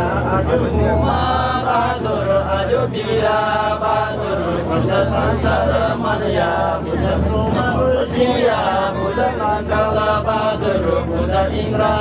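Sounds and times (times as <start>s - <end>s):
steady low hum: 0.0s - 12.0s
voices chanting: 0.9s - 12.0s.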